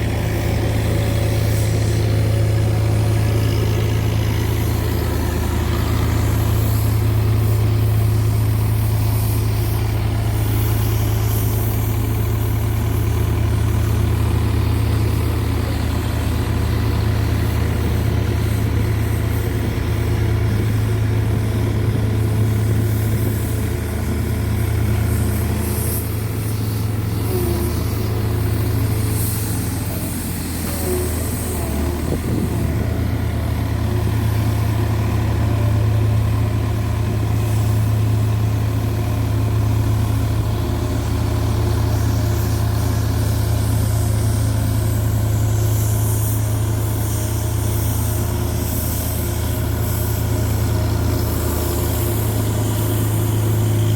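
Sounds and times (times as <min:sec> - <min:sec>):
road roller diesel engine humming: 0:00.0 - 0:53.9.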